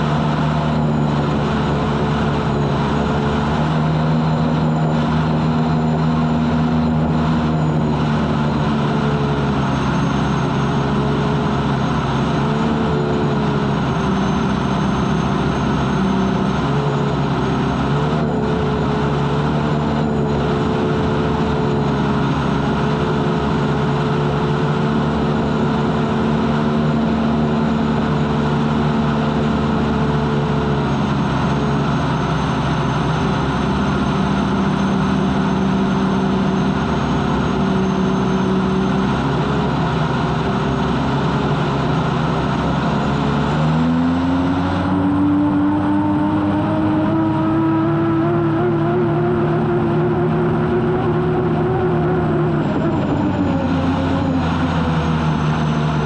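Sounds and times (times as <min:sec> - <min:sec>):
gas turbine engine running: 0:00.0 - 0:56.0.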